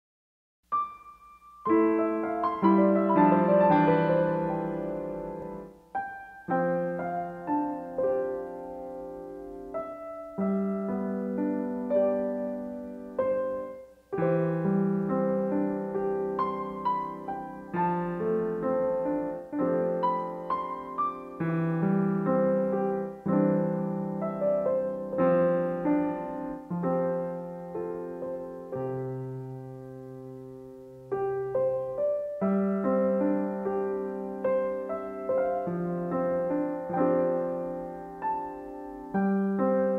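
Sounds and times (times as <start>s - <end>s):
gentle piano music: 0.6s - 39.9s.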